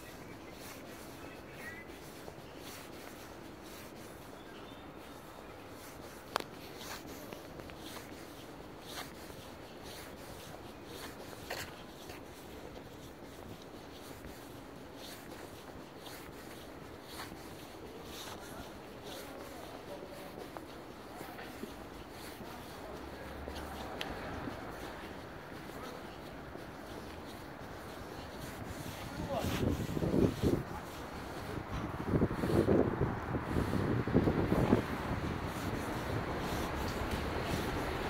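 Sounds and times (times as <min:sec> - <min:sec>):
faint background noise: 0:00.0 - 0:38.0
footsteps on asphalt: 0:00.0 - 0:38.0.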